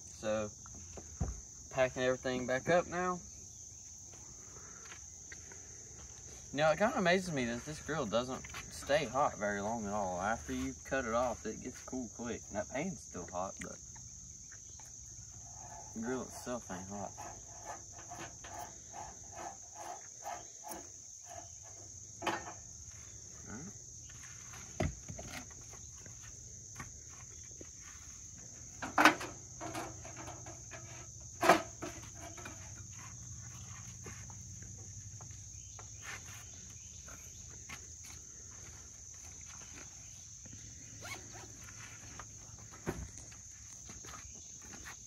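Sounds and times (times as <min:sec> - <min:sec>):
insect chorus: 0:00.0 - 0:45.0.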